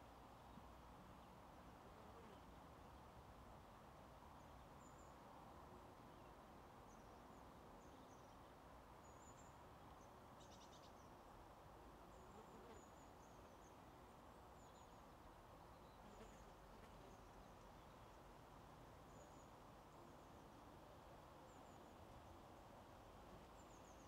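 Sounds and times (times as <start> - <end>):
low outdoor hiss: 0.0 - 24.0.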